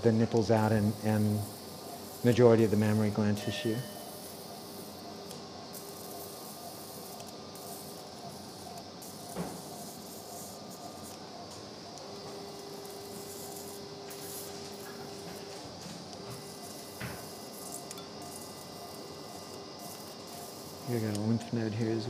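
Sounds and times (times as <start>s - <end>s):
operating room background hiss: 0.0s - 22.0s.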